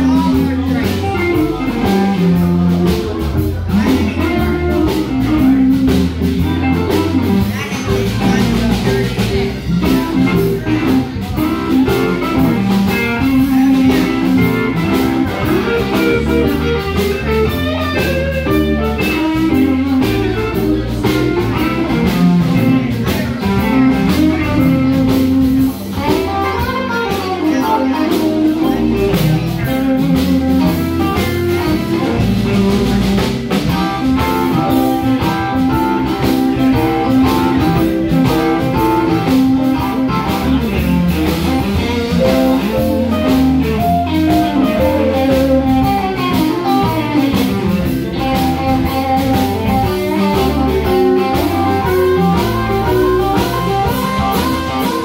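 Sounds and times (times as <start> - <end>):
bass guitar: 0.0 - 55.0
blues guitar lines: 0.0 - 55.0
drum kit beat: 0.0 - 55.0.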